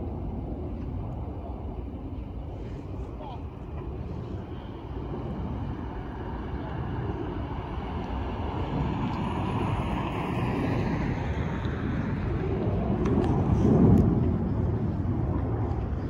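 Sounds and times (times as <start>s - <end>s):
jet airliner engine rumble: 0.0s - 16.0s.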